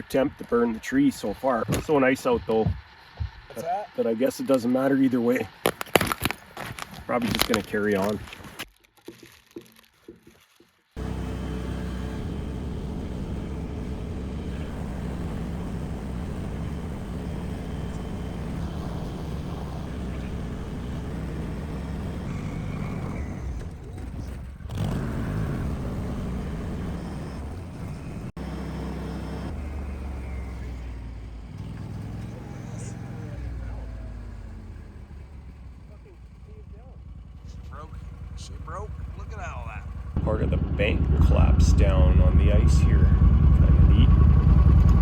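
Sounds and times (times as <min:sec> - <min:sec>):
vehicle engine running: 0:00.0 - 0:08.6, 0:11.0 - 0:45.0.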